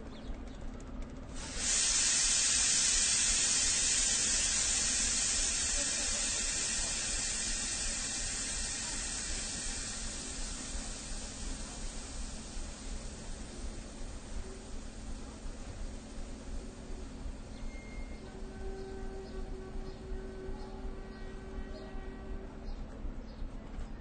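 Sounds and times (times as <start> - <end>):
train venting loud hiss: 1.3 - 22.7.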